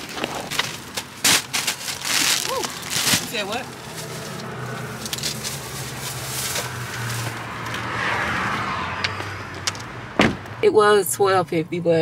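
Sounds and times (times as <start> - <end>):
car hum: 0.0 - 12.0.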